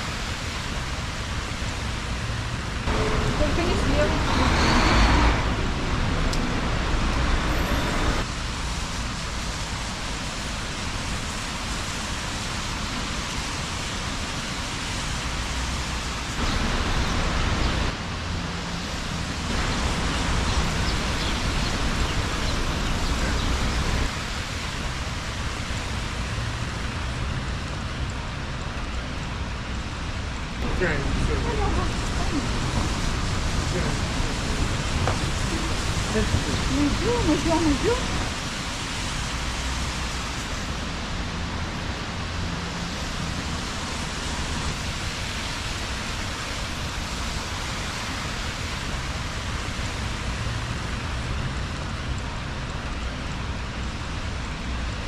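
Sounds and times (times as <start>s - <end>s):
rain hiss: 0.0s - 55.0s
tyres swishing on wet road: 0.0s - 55.0s.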